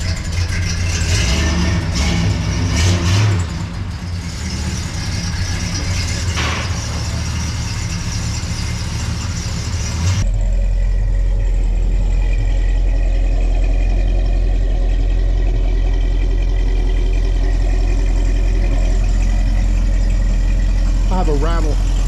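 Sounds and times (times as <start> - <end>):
muffler rattle: 0.0 - 2.6, 3.4 - 22.0
engine idling: 0.0 - 22.0.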